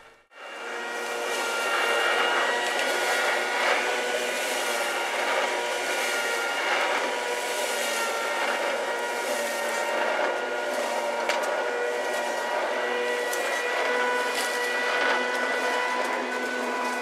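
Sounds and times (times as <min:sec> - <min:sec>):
electric lawn mower running: 0:00.0 - 0:17.0.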